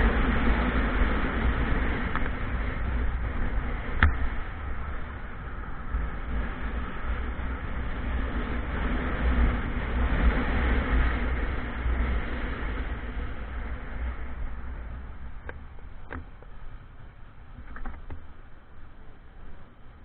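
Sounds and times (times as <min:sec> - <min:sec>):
faint motorcycle engine: 0:00.0 - 0:20.0
road and wind noise: 0:00.0 - 0:20.0
wind rumble on microphone: 0:00.0 - 0:20.0.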